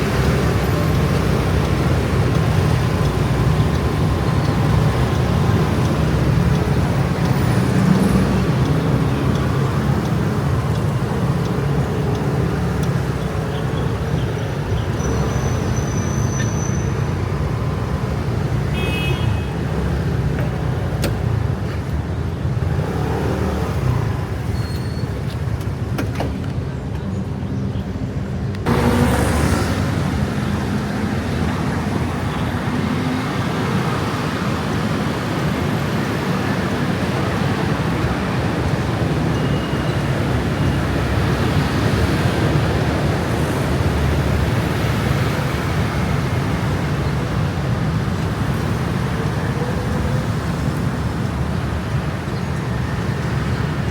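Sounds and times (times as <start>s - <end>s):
motor scooters in traffic: 0.0s - 53.9s.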